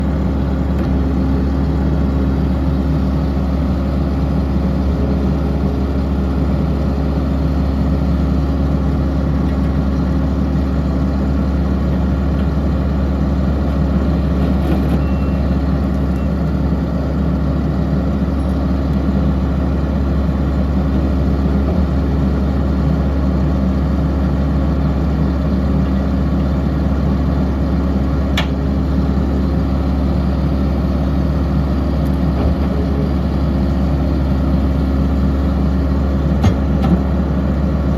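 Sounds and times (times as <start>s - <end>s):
diesel engine running steadily: 0.0s - 37.9s.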